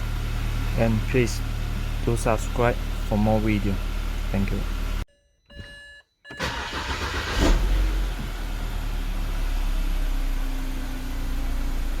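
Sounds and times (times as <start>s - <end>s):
car engine idling: 0.0s - 5.0s, 6.4s - 12.0s.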